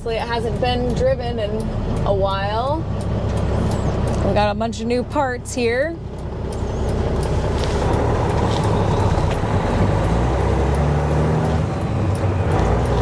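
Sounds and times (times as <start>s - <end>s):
road noise: 0.0s - 13.0s
truck diesel engine in cab: 0.0s - 13.0s.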